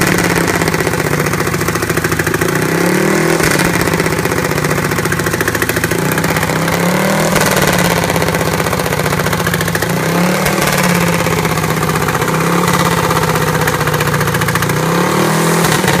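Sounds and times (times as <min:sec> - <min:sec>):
single-cylinder engine revving: 0:00.0 - 0:16.0.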